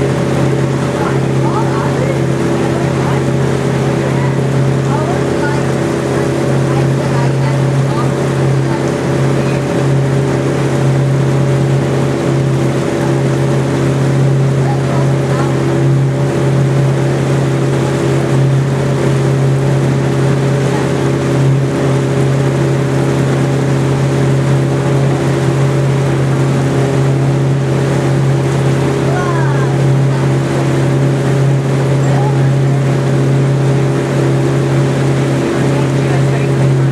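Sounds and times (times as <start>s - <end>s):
boat engine humming: 0.0s - 36.9s
water rushing: 0.0s - 36.9s
wind: 0.0s - 36.9s.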